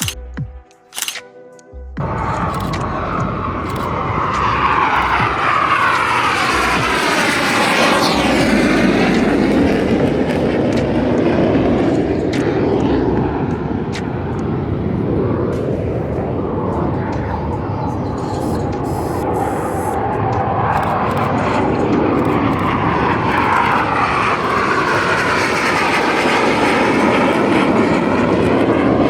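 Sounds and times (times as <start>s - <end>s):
jet engine whine passing by: 2.0s - 29.0s.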